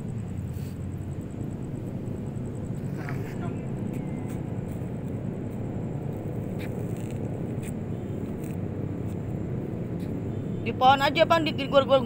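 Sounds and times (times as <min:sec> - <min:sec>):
distant city traffic rumble: 0:00.0 - 0:12.0.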